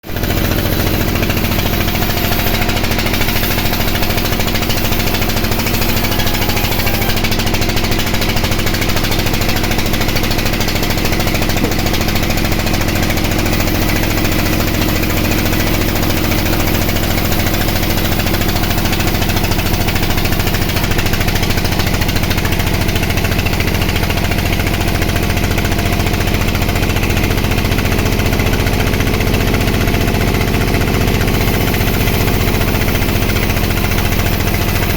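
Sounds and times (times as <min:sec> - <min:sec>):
band saw running: 0:00.0 - 0:34.9.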